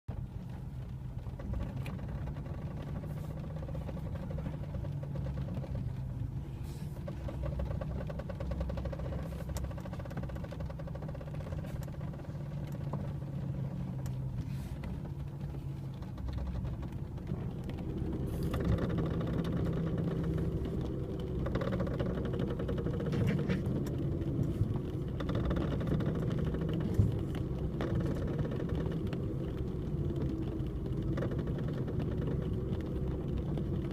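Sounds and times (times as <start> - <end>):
car engine rumble: 0.1 - 33.9
suspension creaking: 0.1 - 33.9.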